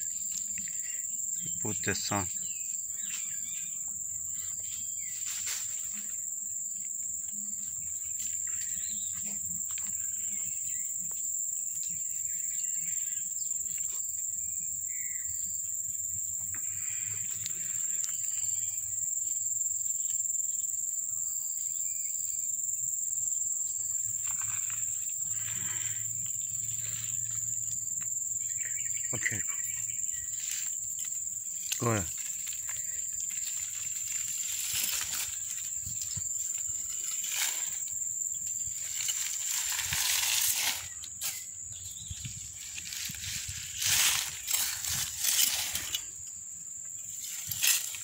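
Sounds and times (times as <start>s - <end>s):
shrill insect chorus: 0.0s - 48.0s.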